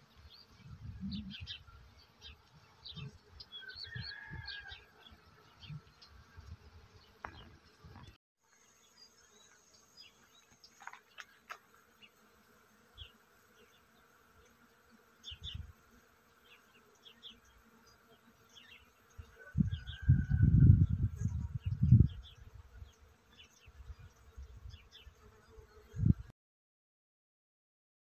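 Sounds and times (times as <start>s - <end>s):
flying insect buzzing: 0.0s - 26.3s.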